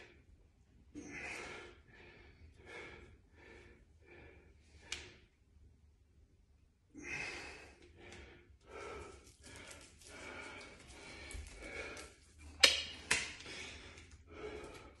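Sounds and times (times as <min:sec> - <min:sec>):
man breathing hard: 0:00.9 - 0:05.4, 0:06.9 - 0:15.0.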